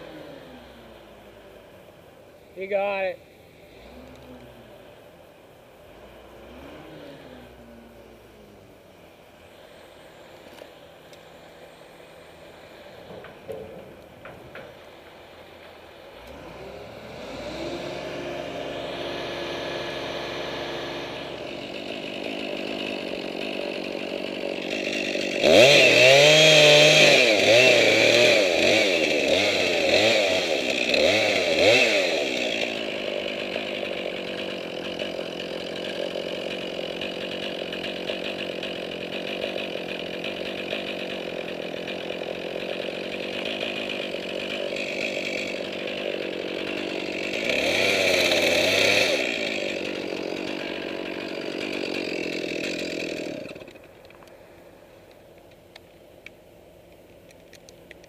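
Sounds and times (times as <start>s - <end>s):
chainsaw revving: 0.0s - 1.4s, 2.6s - 5.0s, 5.8s - 8.6s, 9.4s - 54.8s.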